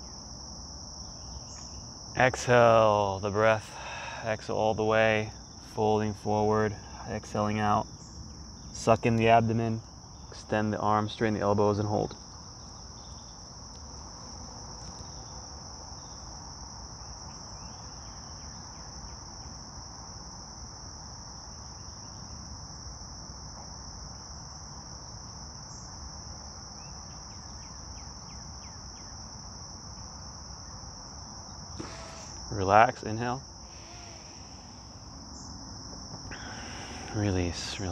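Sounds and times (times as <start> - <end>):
crickets chirping: 0.0 - 37.9
outdoor background hiss: 0.0 - 37.9.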